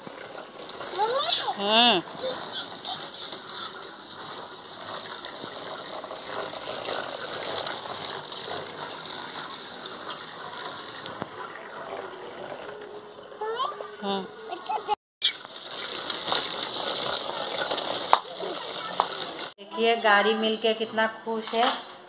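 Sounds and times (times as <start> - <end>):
plastic wheels rattling on concrete: 0.0 - 21.8.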